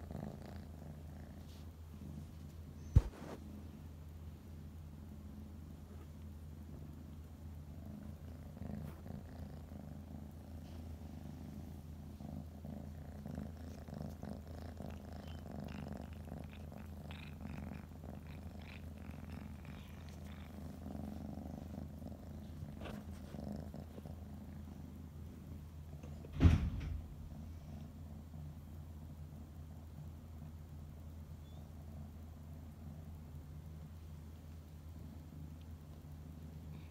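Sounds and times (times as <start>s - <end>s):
cat purring: 0.0s - 36.9s.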